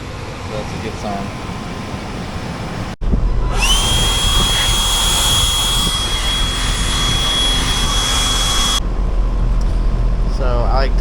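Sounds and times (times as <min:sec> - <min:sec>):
air blower whine: 0:00.0 - 0:10.7.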